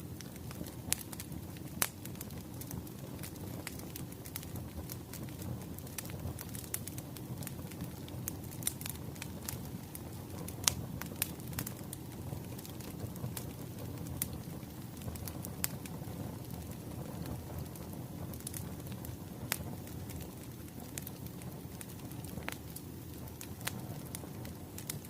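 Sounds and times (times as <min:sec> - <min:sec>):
firewood crackling and popping: 0:00.0 - 0:25.0.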